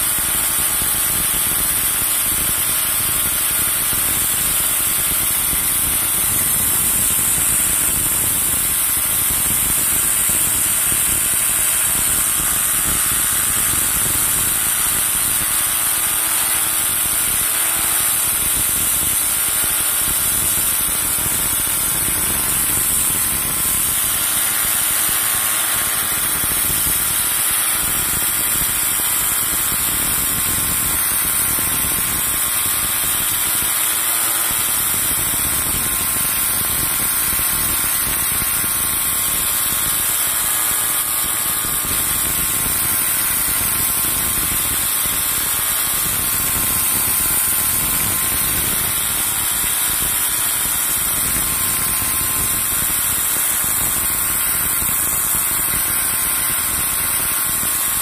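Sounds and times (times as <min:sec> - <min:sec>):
angle grinder grinding steel: 0:00.0 - 0:58.0.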